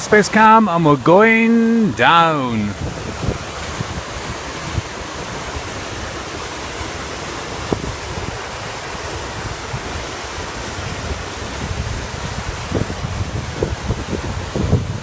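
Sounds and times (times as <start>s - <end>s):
waterfall rushing: 0.0s - 15.0s
wind buffeting microphone: 2.6s - 15.0s.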